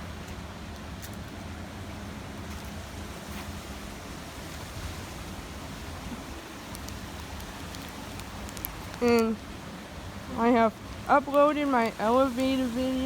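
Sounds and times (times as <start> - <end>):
low constant hum: 0.0 - 13.0.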